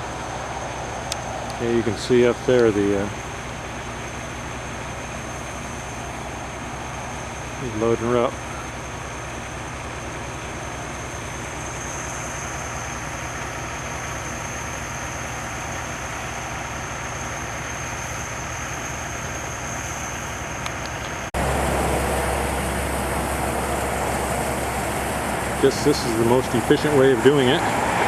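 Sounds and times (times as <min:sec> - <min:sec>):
high whine: 0:00.0 - 0:28.0
tractor engine running: 0:00.0 - 0:28.0.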